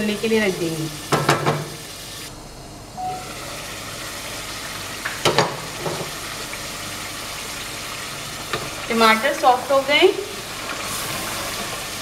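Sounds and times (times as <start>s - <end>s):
food sizzling in a pot: 0.0s - 2.3s, 3.0s - 12.0s.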